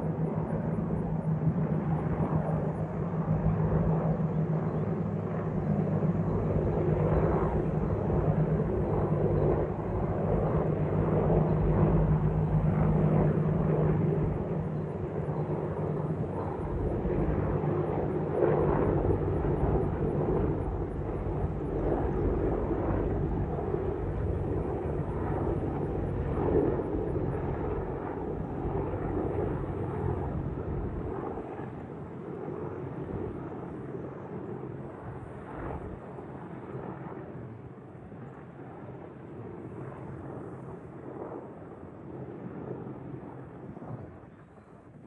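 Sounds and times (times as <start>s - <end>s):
helicopters flying past: 0.0s - 45.0s.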